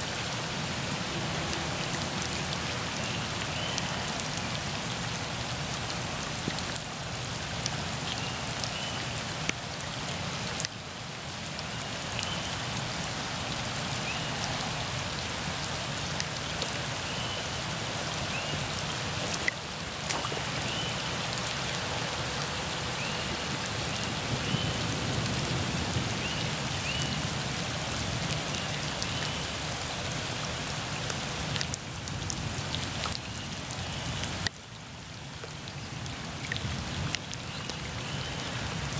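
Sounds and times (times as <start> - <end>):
rain falling on floodwater: 0.0 - 38.9.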